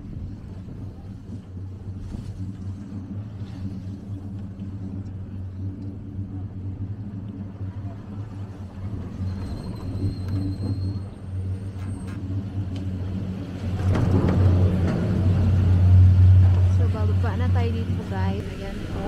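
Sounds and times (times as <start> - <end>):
gondola lift mechanical hum: 0.0 - 19.0.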